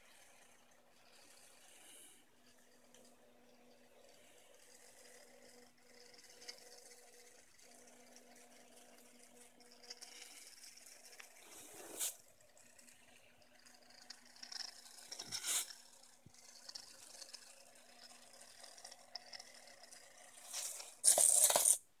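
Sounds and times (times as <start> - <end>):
small gear motors whirring: 0.0 - 21.8
steady low hum: 0.0 - 22.0.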